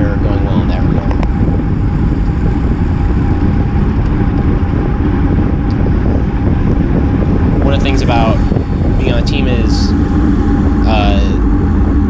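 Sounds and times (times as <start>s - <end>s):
tyre and road noise: 0.0s - 12.0s
wind rush on microphone: 0.0s - 12.0s.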